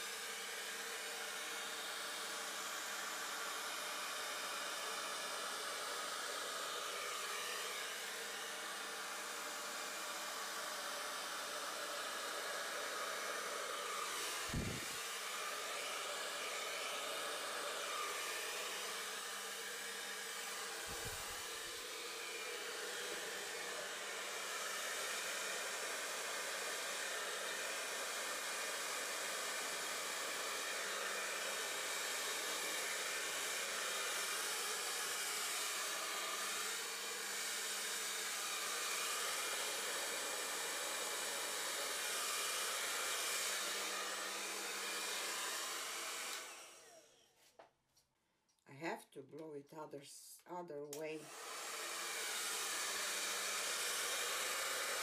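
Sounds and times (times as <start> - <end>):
hair dryer blowing: 0.0 - 47.3, 50.5 - 55.0.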